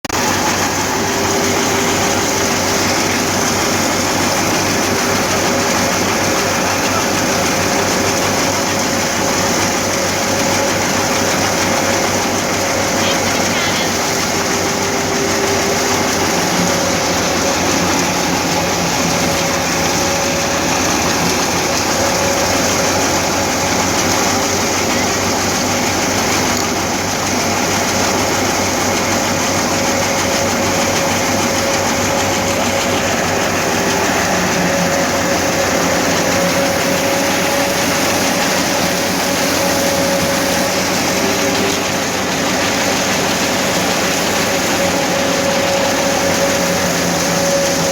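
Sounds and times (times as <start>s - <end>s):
steady machine hum: 0.0s - 47.9s
thresher machinery clatter: 0.0s - 47.9s.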